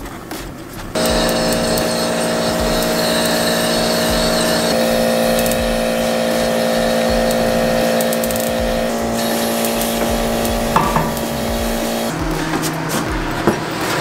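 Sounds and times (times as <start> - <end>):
machine hum: 0.8 - 14.0
air hissing: 0.9 - 14.0.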